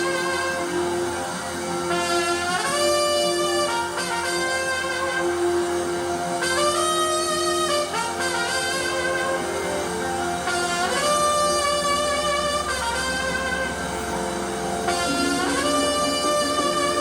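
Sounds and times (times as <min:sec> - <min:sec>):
horn blasts sliding up: 0:00.0 - 0:17.0
sustained keyboard chord: 0:00.0 - 0:17.0.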